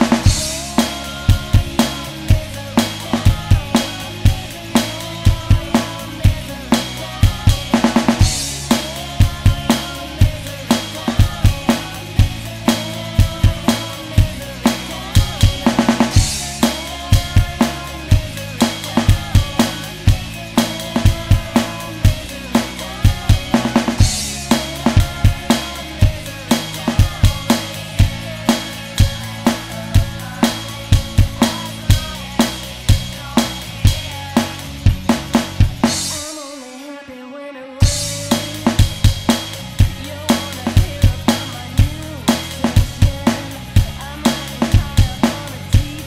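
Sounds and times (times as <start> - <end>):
backing track with bass: 0.0 - 36.6, 37.8 - 46.0
electronic drum kit rock beat: 0.0 - 37.1, 37.8 - 46.0.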